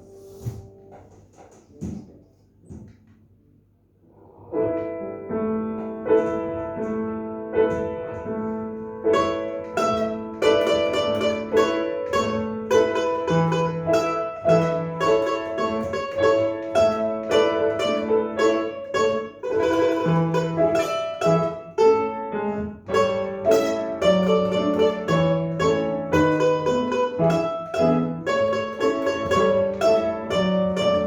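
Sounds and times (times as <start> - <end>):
plucked string instrument tune: 5.8 - 31.0.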